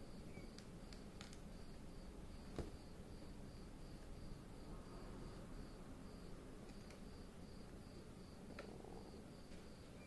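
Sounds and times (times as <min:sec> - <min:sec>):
insect chirping: 0:00.0 - 0:10.0
low room hiss: 0:00.0 - 0:10.0.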